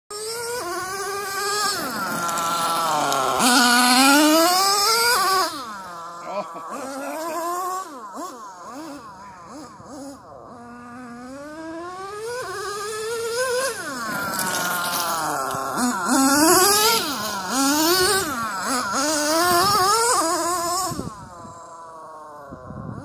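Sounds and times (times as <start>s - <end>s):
rc car engine revving: 0.1s - 23.0s.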